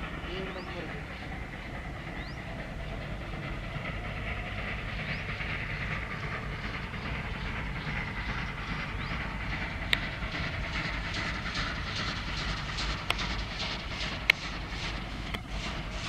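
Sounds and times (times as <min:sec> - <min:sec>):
locomotive running gear rumbling: 0:00.0 - 0:16.0
steam locomotive exhaust hiss: 0:00.0 - 0:16.0.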